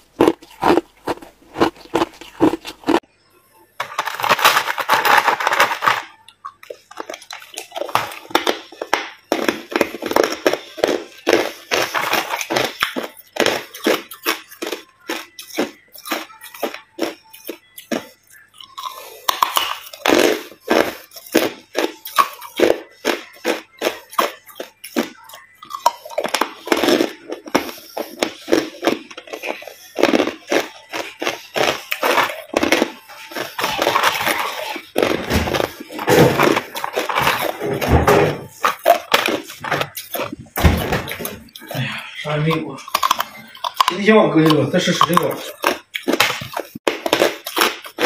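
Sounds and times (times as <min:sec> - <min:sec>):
ice being chewed: 0:00.0 - 0:03.0, 0:04.2 - 0:48.0.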